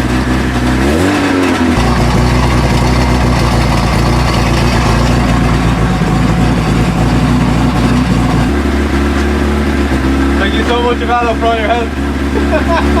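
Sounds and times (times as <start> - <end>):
petrol engine idling: 0.0 - 13.0.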